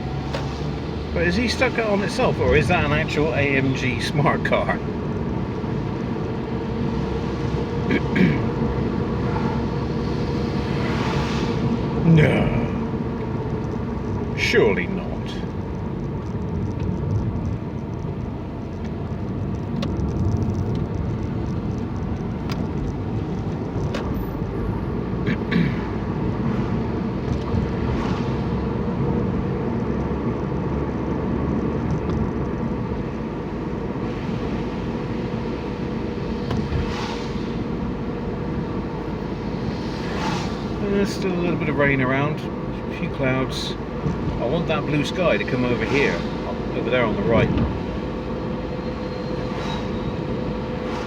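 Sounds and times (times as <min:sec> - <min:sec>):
car engine and tyre rumble: 0:00.0 - 0:51.0.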